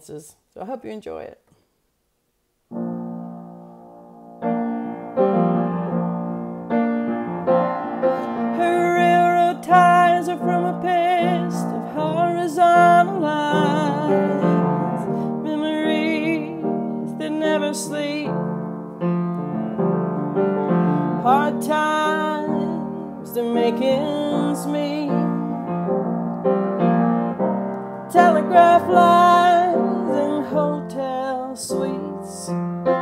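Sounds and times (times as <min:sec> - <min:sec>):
slow piano chords and melody: 0:02.7 - 0:33.0.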